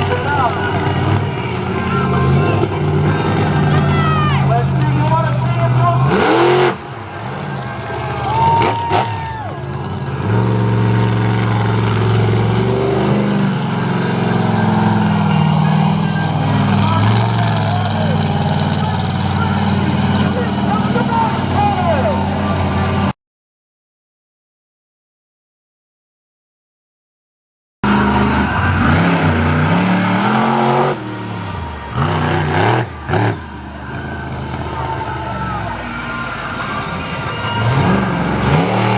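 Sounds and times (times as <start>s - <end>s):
truck engine running: 0.0s - 23.1s, 27.8s - 38.9s.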